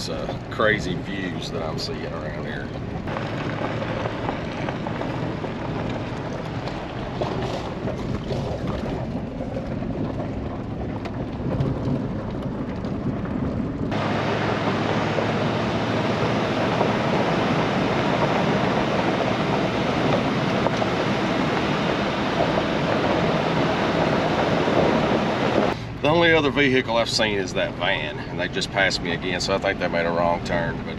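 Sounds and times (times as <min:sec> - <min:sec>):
truck engine and tyre rumble: 0:00.0 - 0:30.9.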